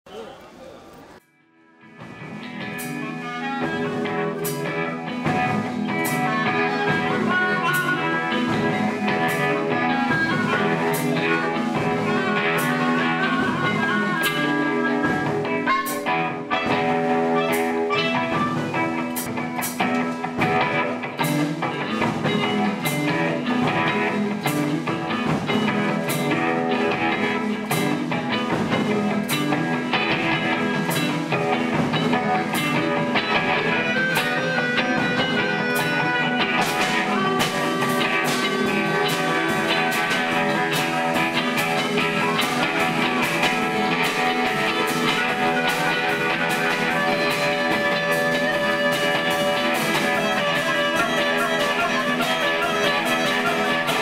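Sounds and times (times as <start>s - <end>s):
guitar-led instrumental music: 1.4s - 54.0s.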